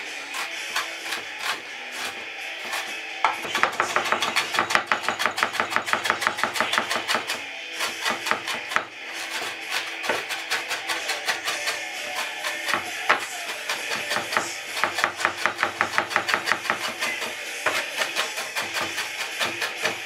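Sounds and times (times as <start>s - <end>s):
knife chopping on wooden board: 0.4s - 20.0s.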